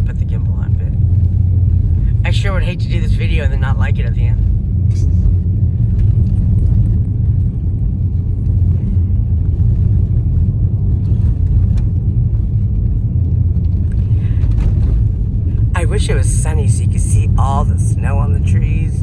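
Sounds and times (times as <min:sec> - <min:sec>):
car engine running: 0:00.0 - 0:19.0
tyre and road noise: 0:00.7 - 0:19.0.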